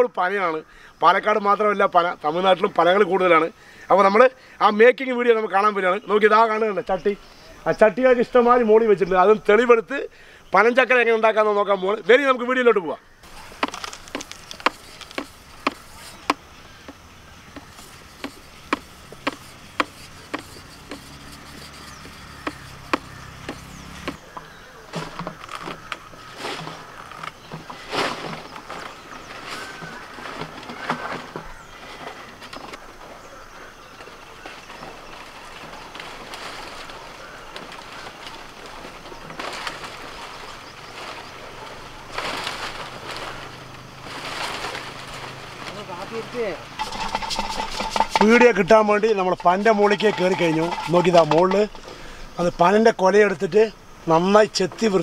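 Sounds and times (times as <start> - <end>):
dry palm fronds rustling: 5.1 - 55.0.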